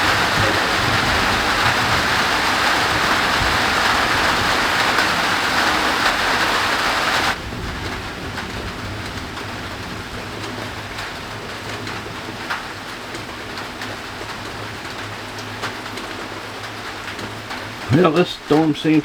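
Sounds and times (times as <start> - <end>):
raindrops tapping nearby: 0.0 - 19.0
steady rain falling: 0.0 - 19.0.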